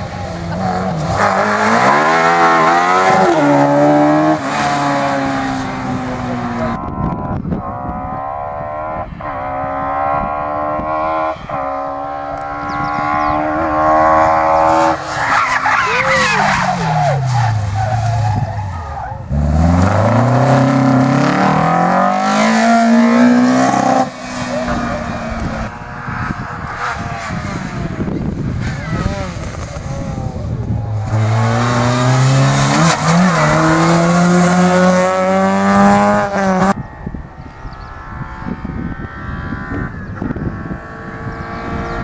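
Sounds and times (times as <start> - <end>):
sports car engines revving: 0.0 - 42.0.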